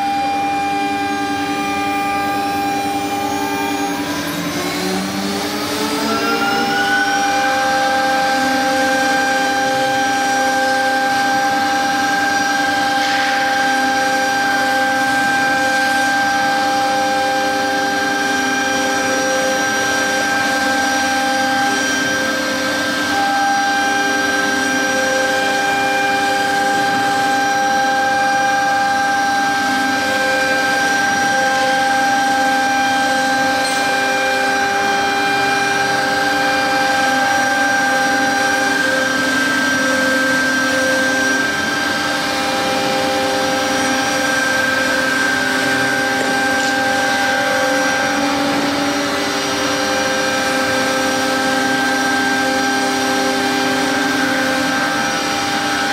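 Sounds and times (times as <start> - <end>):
router spindle whining: 0.0 - 55.9.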